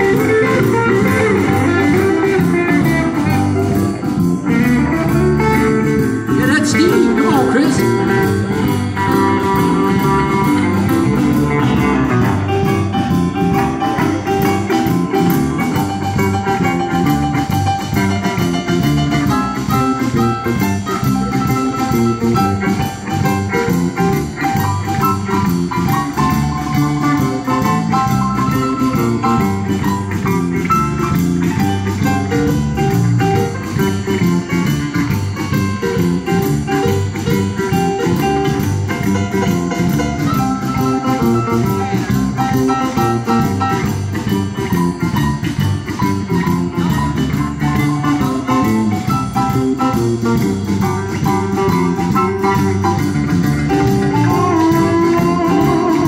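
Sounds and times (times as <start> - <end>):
bass guitar: 0.0 - 56.0
drum kit: 0.0 - 56.0
electric guitar: 0.0 - 56.0
keyboard: 0.0 - 56.0.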